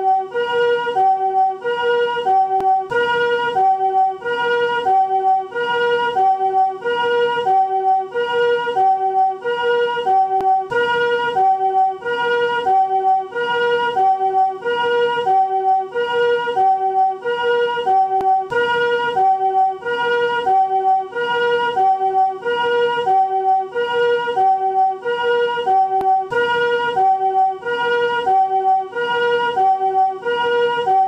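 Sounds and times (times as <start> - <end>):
two-note ambulance siren: 0.0 - 31.0.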